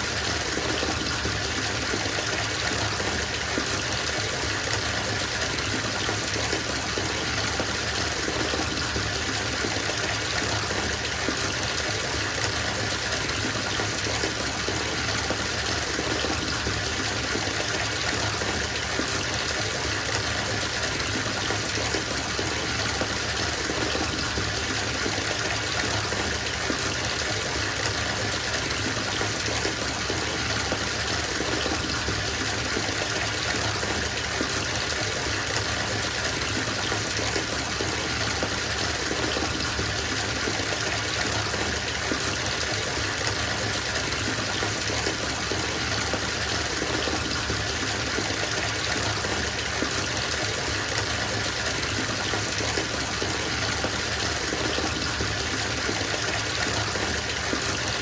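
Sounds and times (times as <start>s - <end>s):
water pouring into bathtub: 0.0s - 58.0s.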